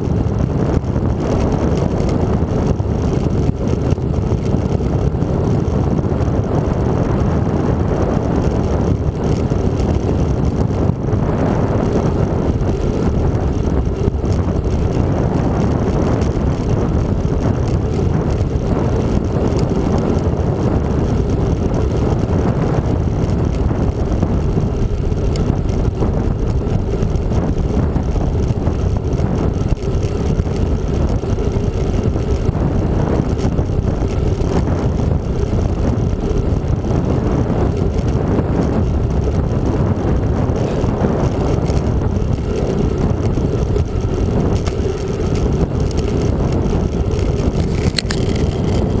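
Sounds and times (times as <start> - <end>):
tyre rumble on asphalt: 0.0 - 49.0
wind noise on microphone: 0.0 - 49.0.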